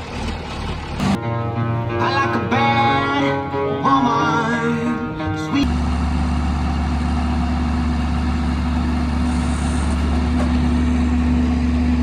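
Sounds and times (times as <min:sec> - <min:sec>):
tractor diesel engine running: 0:00.0 - 0:01.9, 0:02.5 - 0:12.0.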